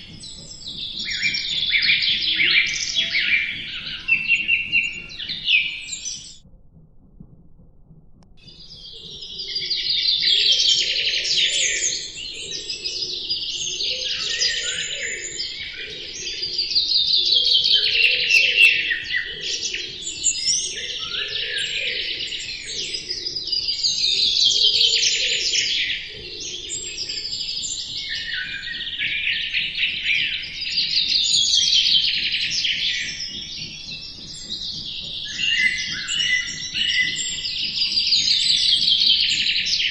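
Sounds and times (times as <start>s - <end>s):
small birds chirping: 0.0s - 6.4s, 8.4s - 39.9s.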